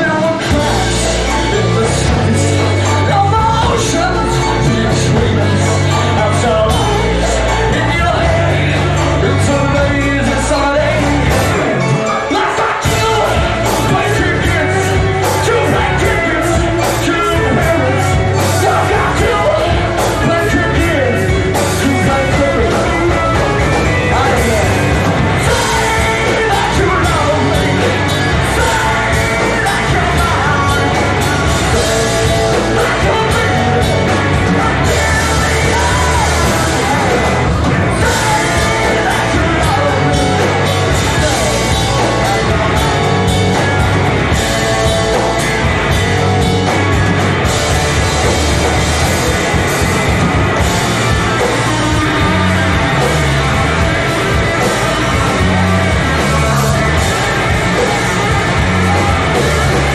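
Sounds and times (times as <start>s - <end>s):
person singing: 0.0s - 59.9s
rock band playing: 0.0s - 59.9s.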